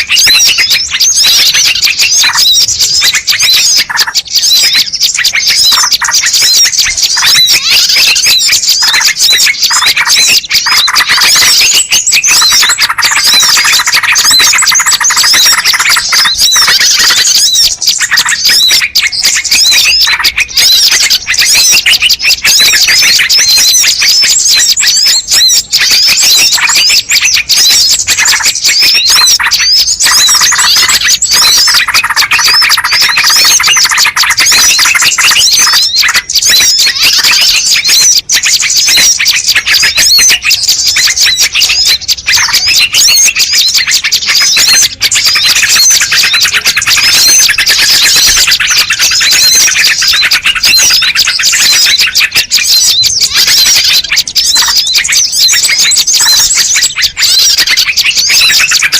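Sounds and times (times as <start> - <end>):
birds chirping and twittering: 0.0 - 58.9.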